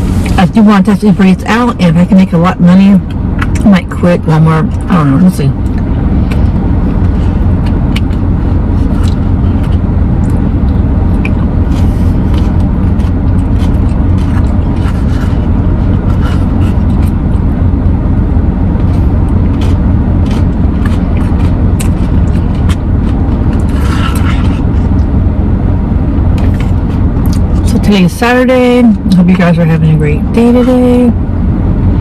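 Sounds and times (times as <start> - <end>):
vehicle interior rumble: 0.0 - 32.0.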